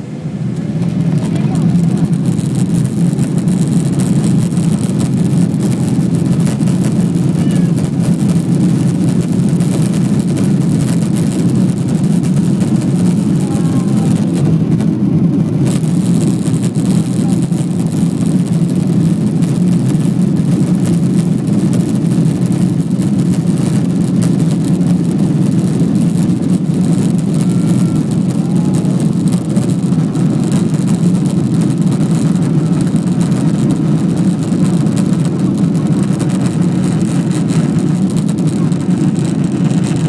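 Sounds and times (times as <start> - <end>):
airliner engines and rolling gear: 0.0 - 40.0.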